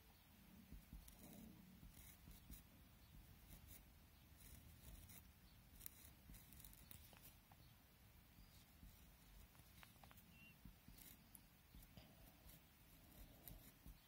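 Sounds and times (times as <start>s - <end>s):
pencil scratching on paper: 0.6s - 7.4s, 8.4s - 14.0s.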